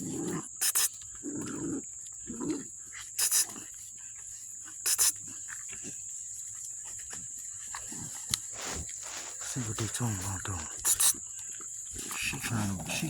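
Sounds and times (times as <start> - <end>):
puppies growling: 0.0 - 13.0.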